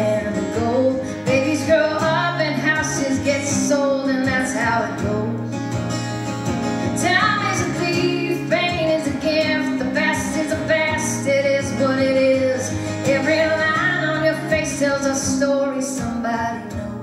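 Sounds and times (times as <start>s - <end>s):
acoustic guitar: 0.0s - 17.0s
woman singing country ballad: 0.0s - 17.0s.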